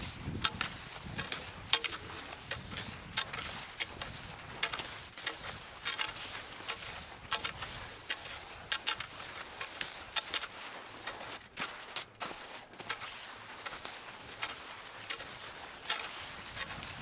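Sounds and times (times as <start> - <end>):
skis scraping over snow: 0.0 - 17.0.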